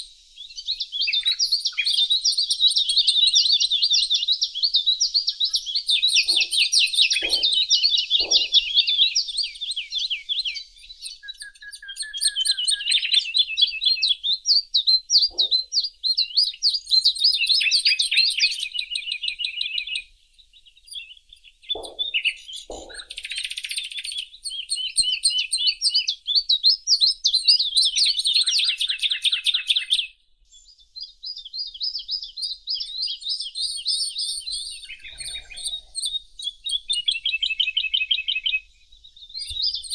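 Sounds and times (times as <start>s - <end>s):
low-pitched bird calls: 0.0s - 39.9s
songbirds singing and chirping: 0.0s - 39.9s.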